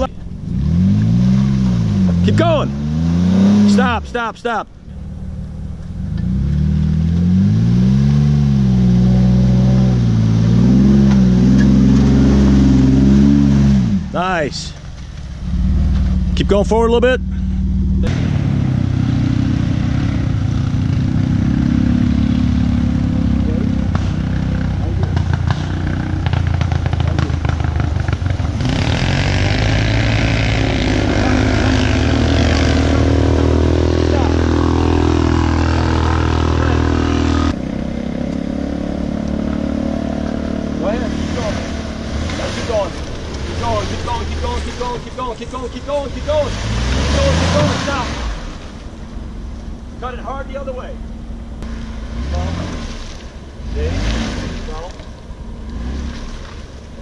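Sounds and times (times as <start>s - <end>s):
engine revving under load: 0.0s - 4.2s, 5.0s - 14.2s, 15.4s - 57.0s.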